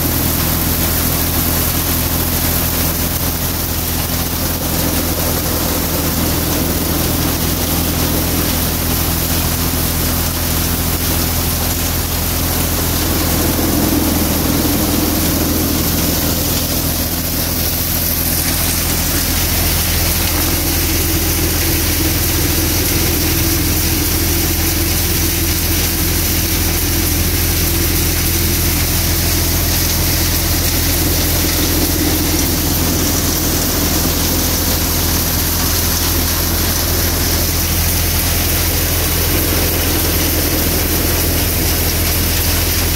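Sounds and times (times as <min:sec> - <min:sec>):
thresher machine droning: 0:00.0 - 0:42.9.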